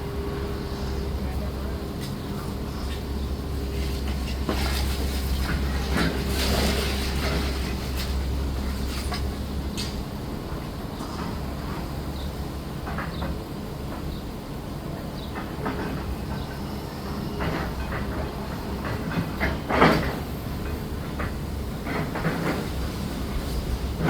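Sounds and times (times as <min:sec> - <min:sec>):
heavy machinery rumbling: 0:00.0 - 0:24.0.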